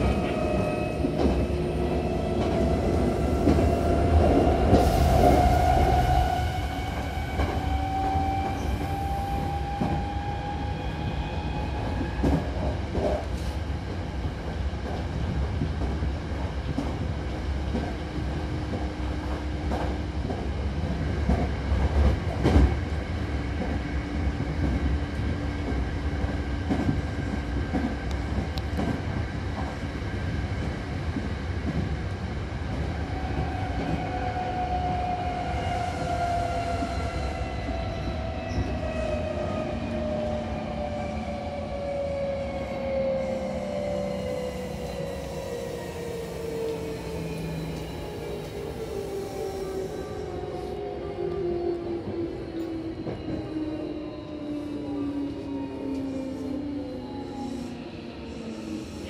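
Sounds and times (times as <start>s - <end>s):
train running gear rumble: 0.0s - 50.6s.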